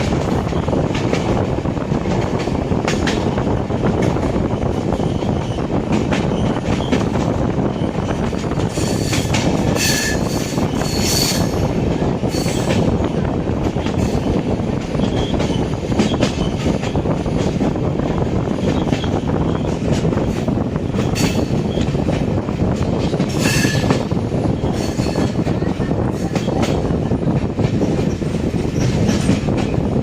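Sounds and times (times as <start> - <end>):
train rumbling and rattling: 0.0 - 30.0.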